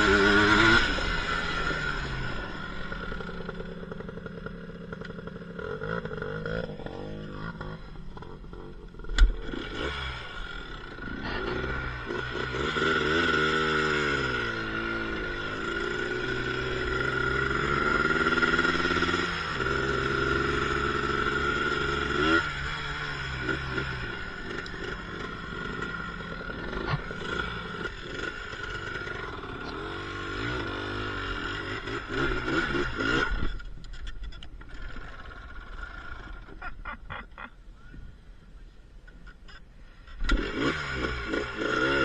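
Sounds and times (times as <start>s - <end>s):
atv engine revving: 0.0s - 37.4s, 39.1s - 42.0s.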